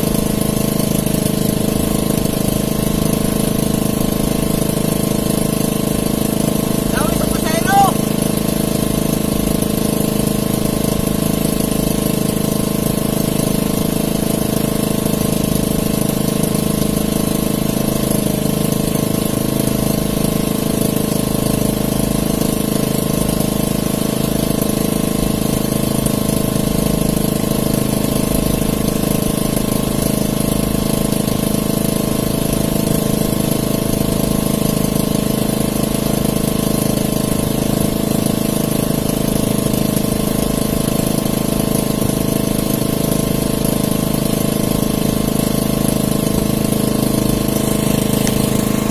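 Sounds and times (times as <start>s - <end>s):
small boat engine running: 0.0s - 48.9s.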